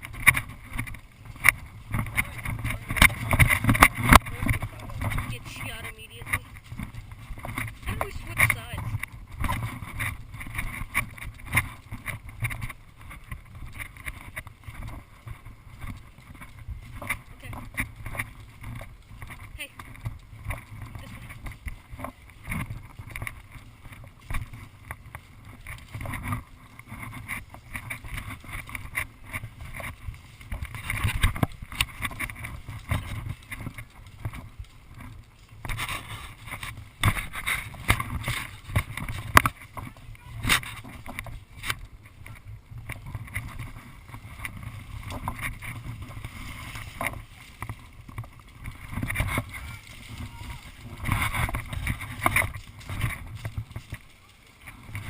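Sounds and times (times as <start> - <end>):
sharp clicks and rustles: 0.0 - 55.0
wind rumble: 0.0 - 55.0.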